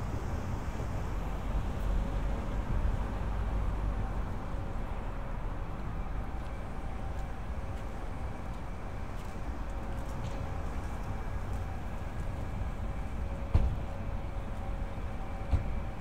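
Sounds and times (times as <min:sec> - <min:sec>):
low rumble of street traffic: 0:00.0 - 0:16.0.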